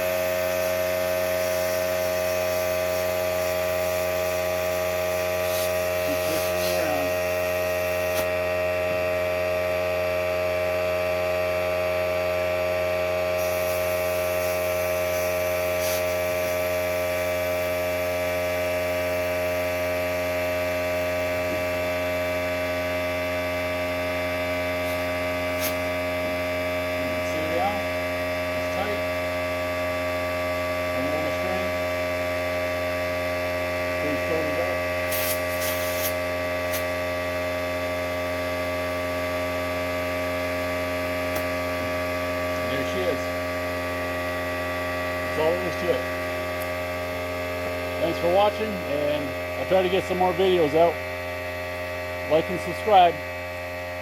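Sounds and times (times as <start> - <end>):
air compressor humming: 0.0 - 54.0.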